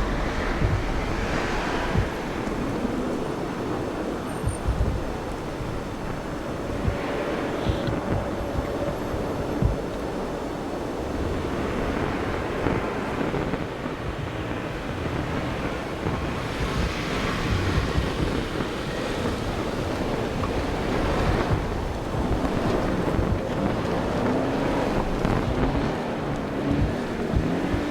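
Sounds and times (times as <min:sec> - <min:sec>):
rally car running on snow: 0:00.0 - 0:27.9
rushing hiss: 0:00.0 - 0:27.9
wind buffeting microphone: 0:00.0 - 0:27.9.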